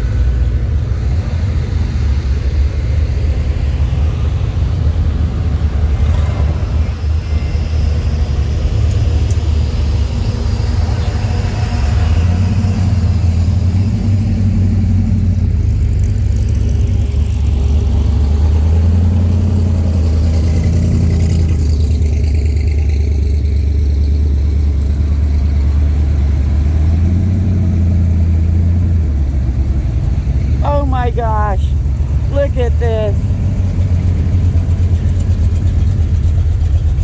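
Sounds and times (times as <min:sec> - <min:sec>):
car engine rumbling: 0:00.0 - 0:37.0.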